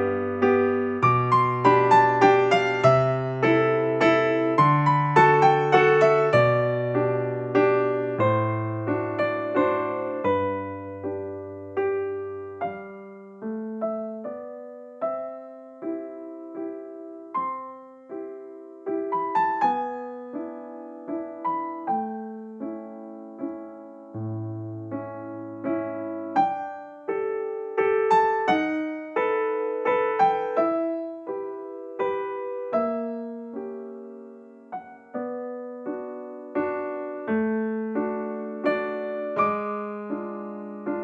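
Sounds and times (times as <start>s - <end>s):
gentle piano music: 0.0s - 41.0s.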